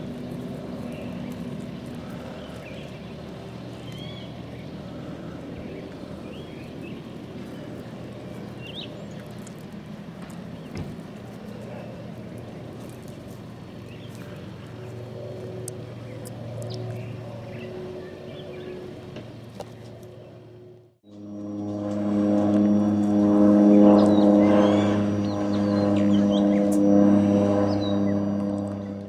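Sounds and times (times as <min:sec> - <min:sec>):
motor humming: 0:00.0 - 0:29.0.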